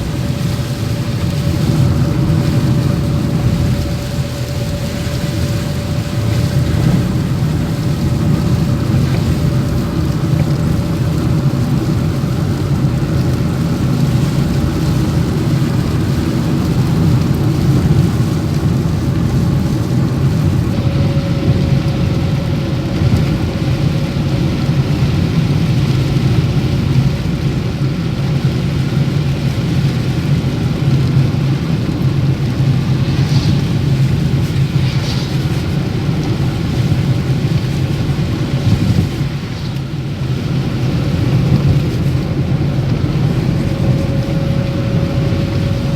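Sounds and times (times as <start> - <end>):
faint steady whine: 0.0 - 45.9
vehicle engine and tyres on road: 0.0 - 45.9.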